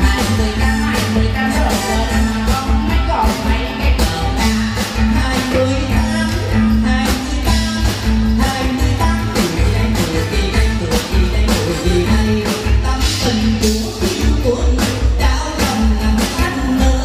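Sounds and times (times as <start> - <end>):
woman singing into microphone: 0.0 - 14.6
live band playing: 0.0 - 17.0.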